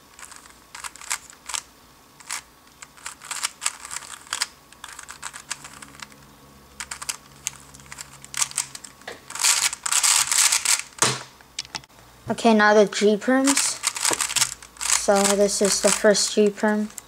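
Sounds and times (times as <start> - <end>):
puzzle cube plastic clicks: 0.1 - 11.9, 13.4 - 17.0.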